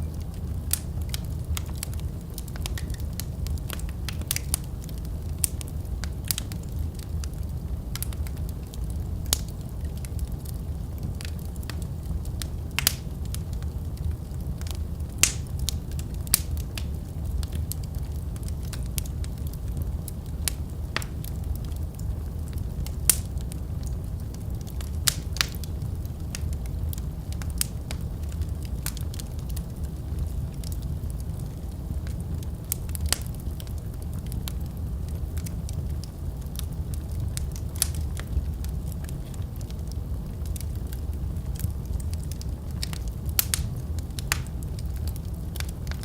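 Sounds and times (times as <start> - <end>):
fire pops and snaps: 0.0 - 46.0
wood fire crackling: 0.0 - 46.0.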